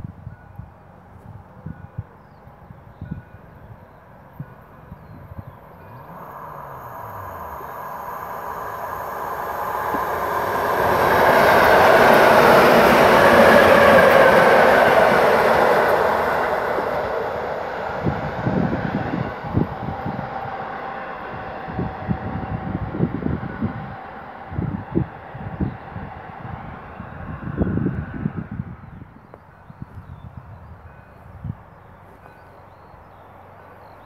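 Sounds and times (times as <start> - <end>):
train passing at speed: 0.0 - 34.0.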